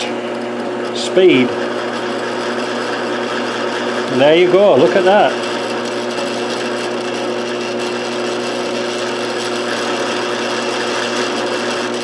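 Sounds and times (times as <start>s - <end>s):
drill grinding into steel: 0.0s - 12.0s.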